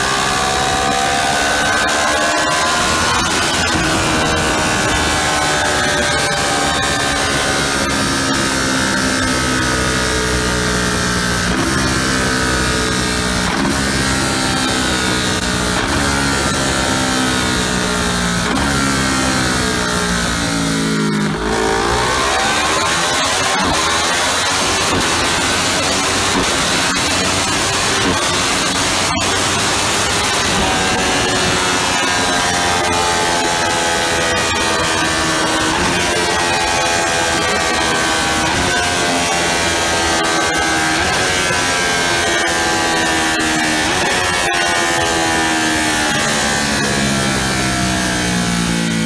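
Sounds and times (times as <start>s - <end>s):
motorcycle engine running hard: 0.0s - 49.0s.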